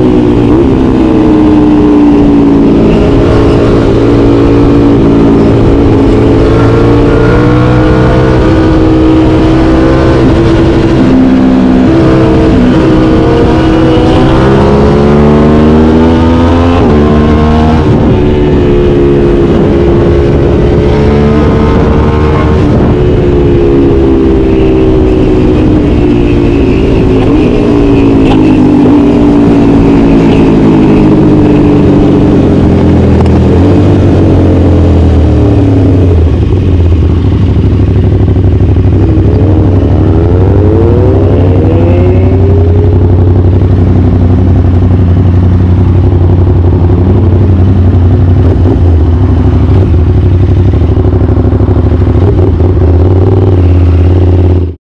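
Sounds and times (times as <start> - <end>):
motorcycle engine idling and revving: 0.0 - 54.9.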